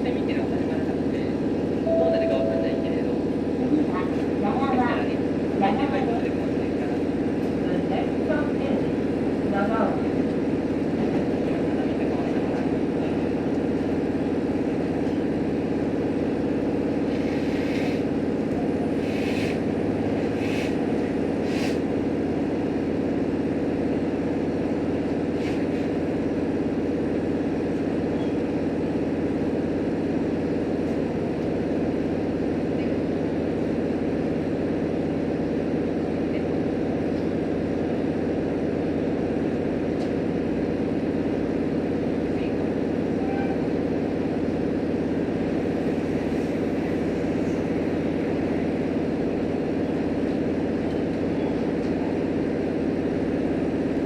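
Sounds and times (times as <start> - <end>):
railcar engine and wheels drone: 0.0 - 54.0.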